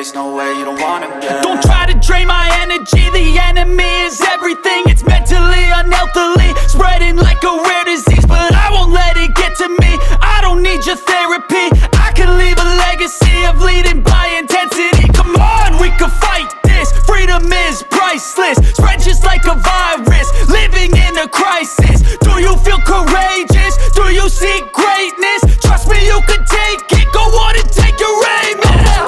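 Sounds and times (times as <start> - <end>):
hip-hop music with heavy bass: 0.0 - 29.0
vocal lines: 0.0 - 29.0.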